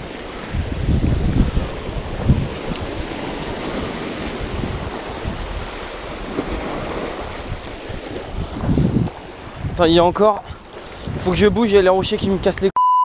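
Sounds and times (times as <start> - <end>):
surf breaking over rocks: 0.0 - 12.0
wind buffeting microphone: 0.0 - 12.7.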